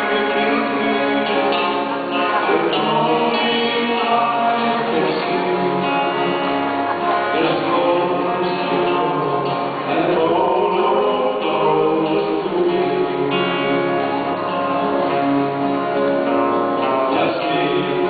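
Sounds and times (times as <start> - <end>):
two men singing gospel duet: 0.0 - 14.0, 17.0 - 18.0
lead guitar: 0.0 - 18.0.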